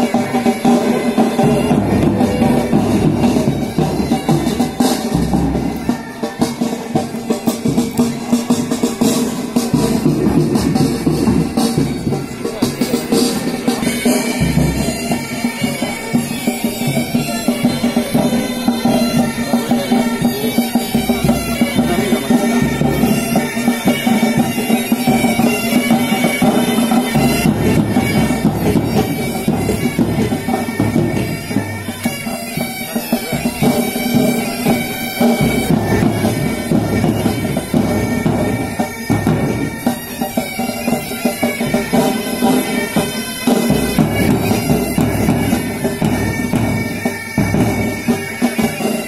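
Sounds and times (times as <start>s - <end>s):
bagpipes playing a march: 0.0s - 49.0s
drums beating: 0.0s - 49.0s.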